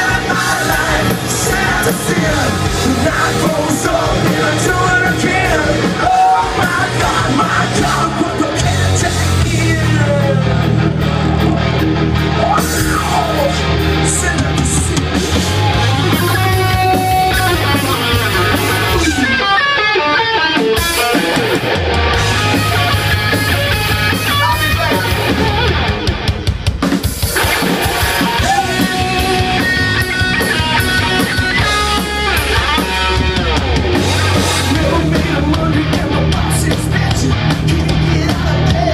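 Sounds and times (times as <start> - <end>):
drum kit: 0.0 - 19.5, 20.5 - 38.9
bass guitar: 0.0 - 38.9
distorted electric guitars: 0.0 - 38.9.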